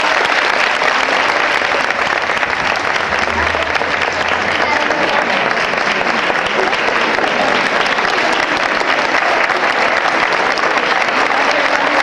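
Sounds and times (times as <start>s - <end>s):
audience clapping in a hall: 0.0s - 12.0s.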